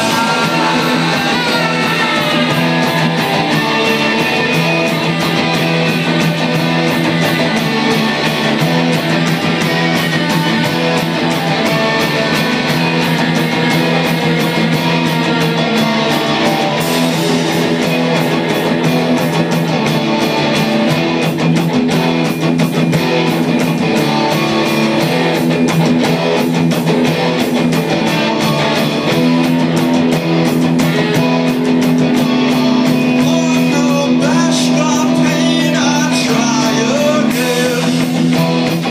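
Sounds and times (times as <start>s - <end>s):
electric guitars holding chords: 0.0s - 38.9s
fast drum beat: 0.0s - 38.9s.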